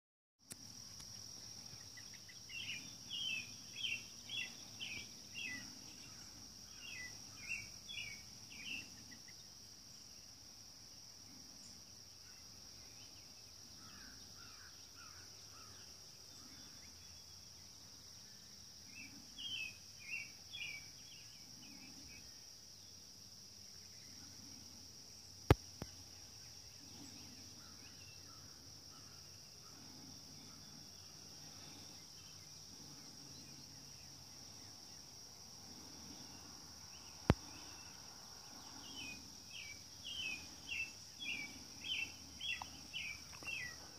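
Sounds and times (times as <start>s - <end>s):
high insect trill: 0.4s - 43.9s
bird chirping: 1.1s - 10.3s, 11.6s - 23.0s, 25.5s - 43.9s.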